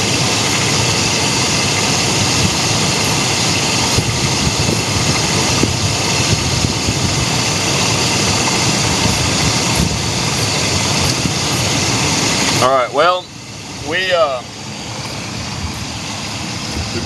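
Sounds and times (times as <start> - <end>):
steady engine-like running noise: 0.0 - 17.0.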